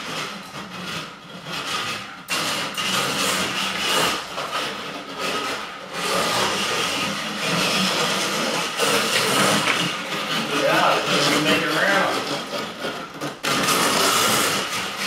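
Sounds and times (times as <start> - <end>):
slot car scraping on track: 0.0 - 15.0.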